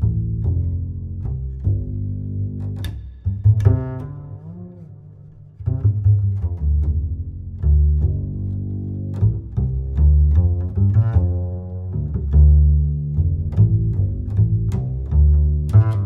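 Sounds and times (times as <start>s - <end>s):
bass-heavy instrumental music: 0.0s - 16.0s.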